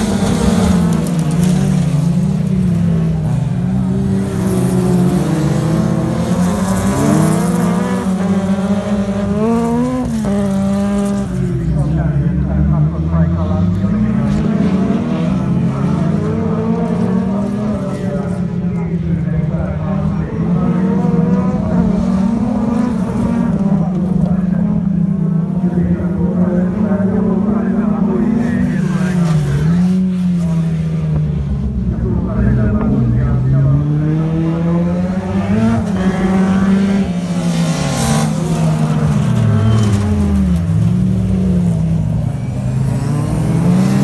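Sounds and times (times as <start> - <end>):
race car engines revving: 0.0 - 44.0.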